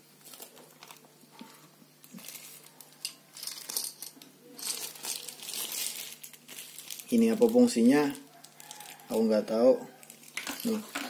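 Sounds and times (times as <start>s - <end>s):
plastic packaging crinkling: 0.0s - 4.0s, 4.6s - 11.0s.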